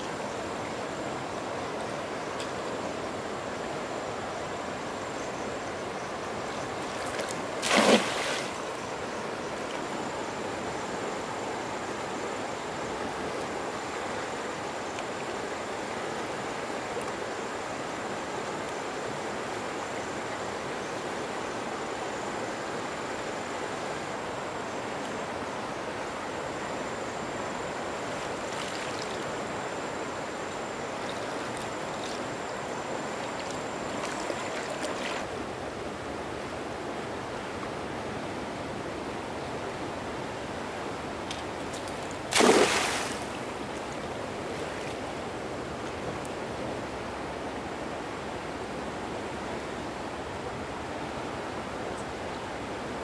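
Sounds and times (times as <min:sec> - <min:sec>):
flowing stream water: 0:00.0 - 0:53.0.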